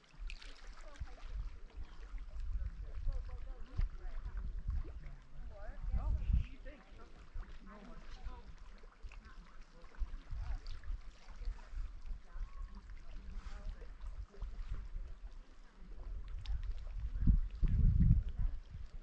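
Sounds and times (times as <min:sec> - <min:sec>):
faint water sounds: 0:00.0 - 0:19.0.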